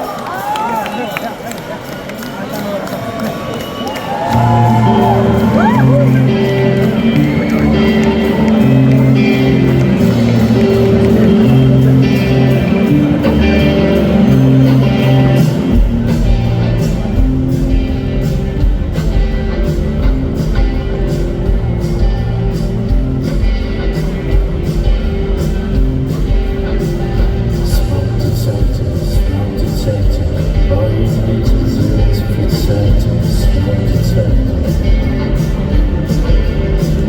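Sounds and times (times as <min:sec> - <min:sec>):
held guitar chords: 0:04.3 - 0:37.0
heavy bass and drums: 0:04.4 - 0:37.0.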